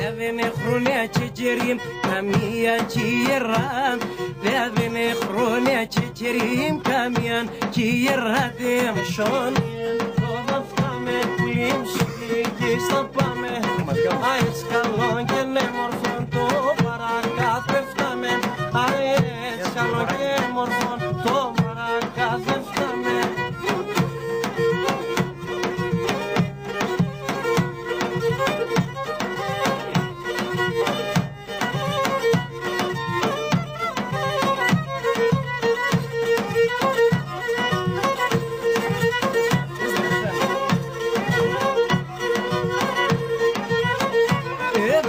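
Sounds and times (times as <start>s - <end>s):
hand-drum strokes: 0.0s - 45.0s
wavering folk melody: 0.0s - 45.0s.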